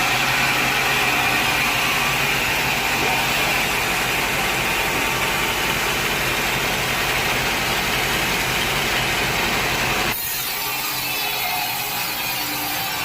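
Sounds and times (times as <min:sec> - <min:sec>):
machine engine running: 0:00.0 - 0:13.0.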